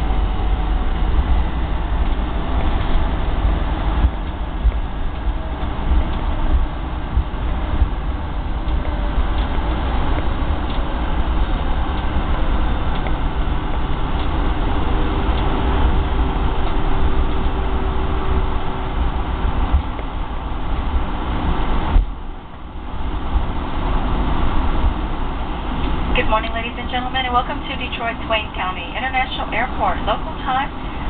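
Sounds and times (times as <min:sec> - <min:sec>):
aircraft cabin engine noise: 0:00.0 - 0:31.0.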